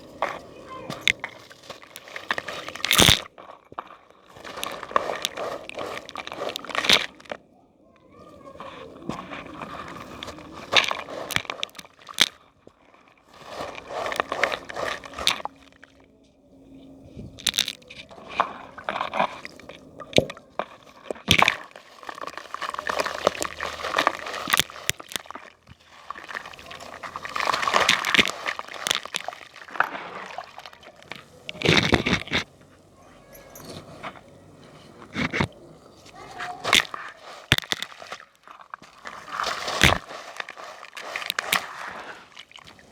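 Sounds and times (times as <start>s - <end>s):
water squishing and sloshing: 0.0s - 16.1s, 16.8s - 42.9s
crunchy balls crumbling: 0.0s - 42.9s.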